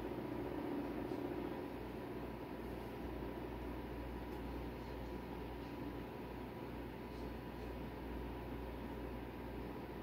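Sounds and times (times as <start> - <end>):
steady background hum with hiss: 0.0 - 10.0.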